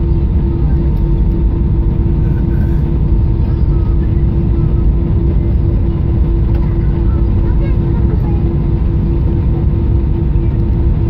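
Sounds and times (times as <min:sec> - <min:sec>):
engines and wheels rumbling: 0:00.0 - 0:11.0
steady hum: 0:00.0 - 0:11.0.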